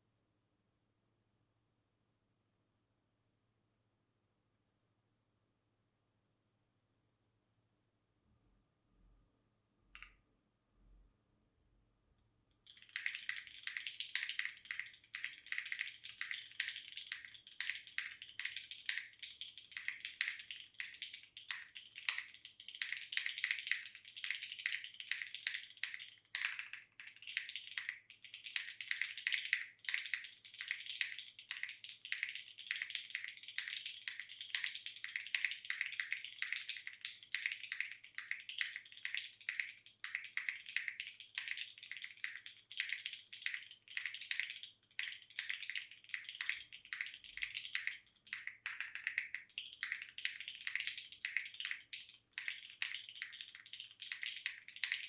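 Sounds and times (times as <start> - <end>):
mechanical keyboard typing: 6.0 - 8.0, 12.7 - 55.0.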